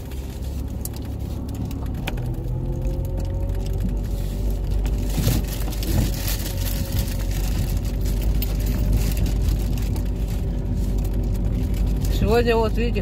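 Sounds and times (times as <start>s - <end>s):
car engine running: 0.0s - 13.0s
tyres rumbling on rough asphalt: 0.0s - 13.0s.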